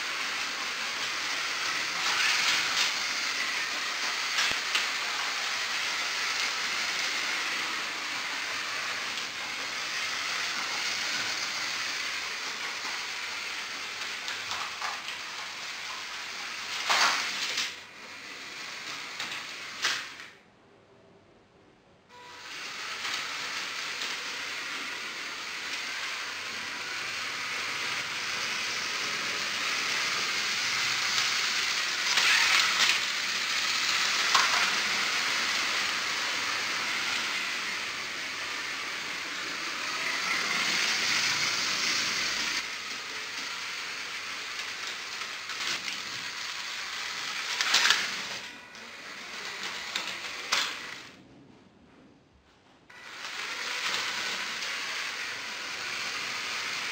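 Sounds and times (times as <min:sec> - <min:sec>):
toy train motors whirring: 0:00.0 - 0:20.4, 0:22.1 - 0:51.2, 0:52.9 - 0:56.9.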